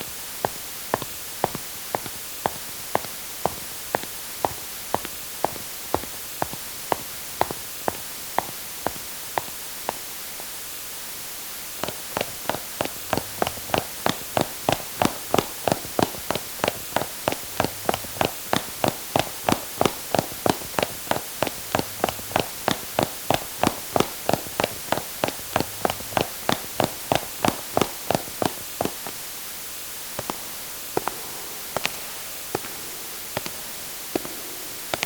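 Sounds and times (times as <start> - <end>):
footsteps walking and running: 0.0 - 10.7, 11.3 - 29.2, 30.2 - 32.8
steady hiss: 0.0 - 35.0.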